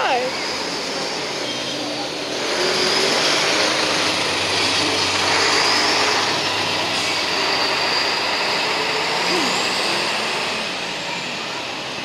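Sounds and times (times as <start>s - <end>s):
coach diesel engine: 0.0s - 12.0s
road noise: 0.0s - 12.0s.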